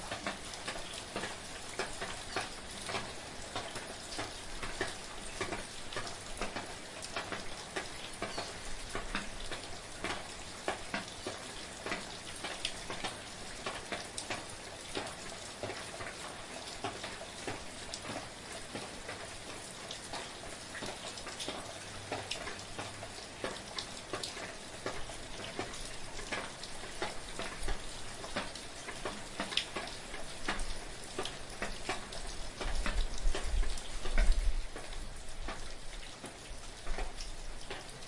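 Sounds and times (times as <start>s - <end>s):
soft rain pattering: 0.0s - 38.0s.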